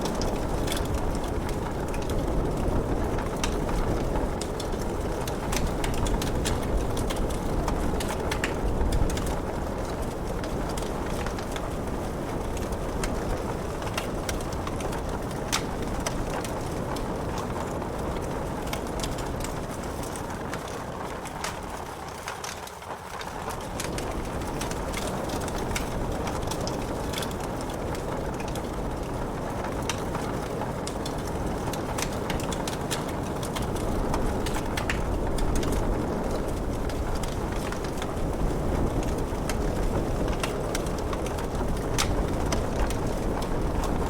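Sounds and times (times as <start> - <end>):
rain: 0.0 - 44.0
wood fire crackling: 0.0 - 44.0.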